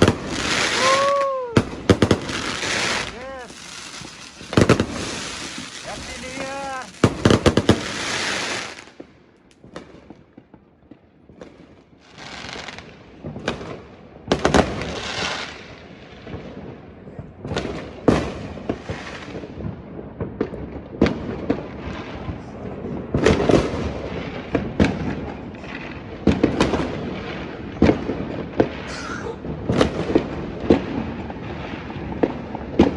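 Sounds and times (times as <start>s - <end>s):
fireworks bangs and booms: 0.0s - 32.9s
fireworks crackling and hissing: 0.0s - 32.9s.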